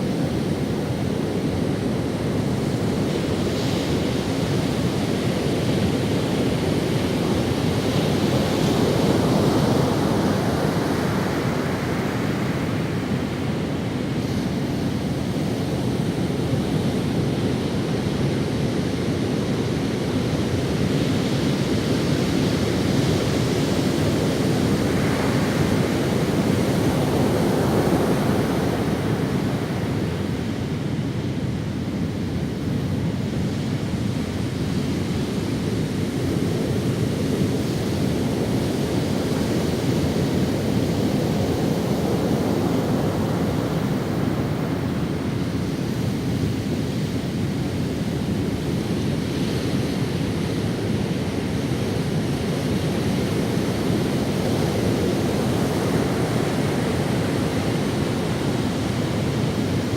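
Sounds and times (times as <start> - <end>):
ocean waves washing on beach: 0.0 - 59.9.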